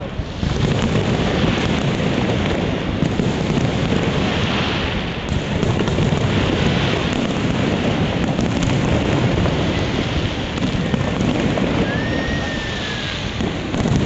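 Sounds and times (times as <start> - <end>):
fireworks bursts and crackles: 0.0 - 14.0
wind noise on microphone: 0.0 - 14.0.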